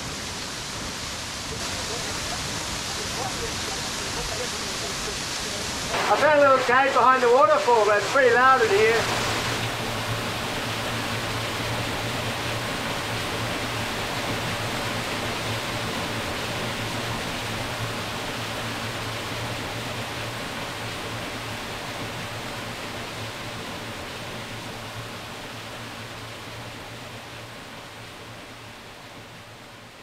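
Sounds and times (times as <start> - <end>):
small waterfall rushing: 0.0 - 30.0.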